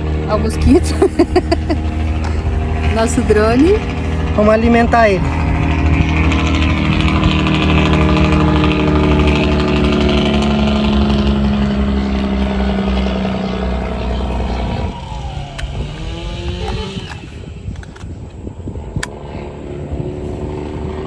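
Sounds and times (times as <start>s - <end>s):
drone propellers whirring: 0.0s - 21.0s.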